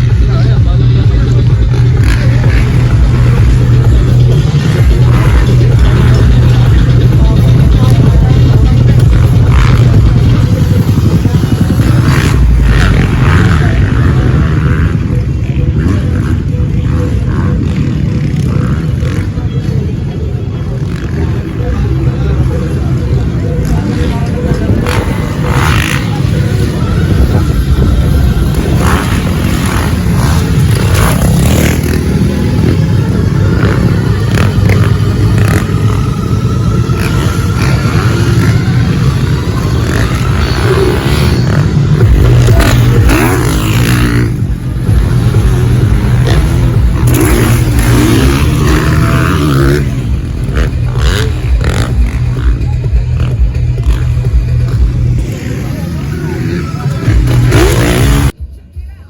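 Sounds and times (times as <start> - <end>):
dirt bike engines rumbling: 0.0 - 59.0.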